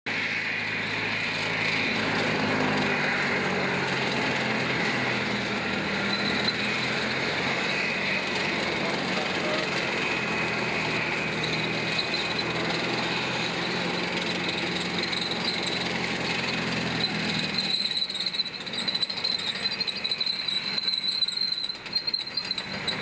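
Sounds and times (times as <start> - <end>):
steady high whine: 0.1 - 21.6
tank engine deep note: 0.3 - 19.9.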